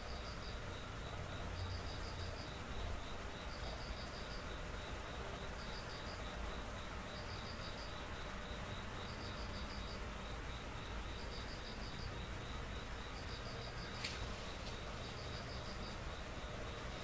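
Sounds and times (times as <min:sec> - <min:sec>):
insect chirping trills: 0:00.0 - 0:17.0
steady hiss: 0:00.0 - 0:17.0.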